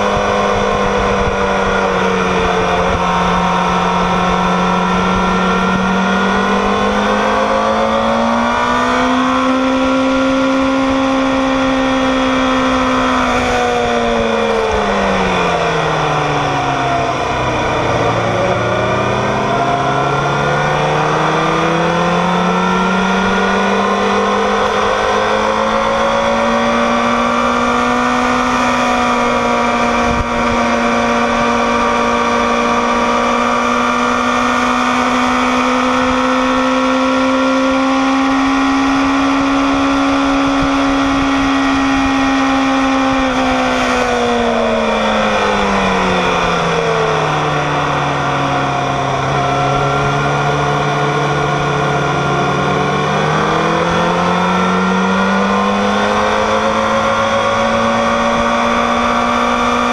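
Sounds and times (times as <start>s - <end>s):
wind rush: 0.0s - 33.8s, 38.2s - 59.9s
motorcycle engine revving: 0.0s - 59.9s.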